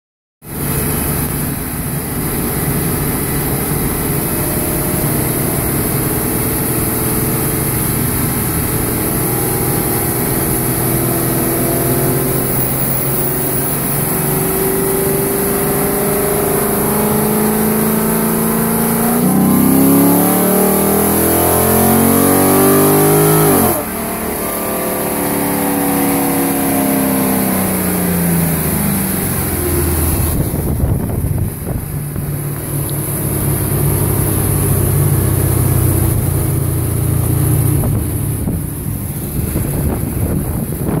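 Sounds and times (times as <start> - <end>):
car engine revving on dynamometer: 0.5 - 41.0.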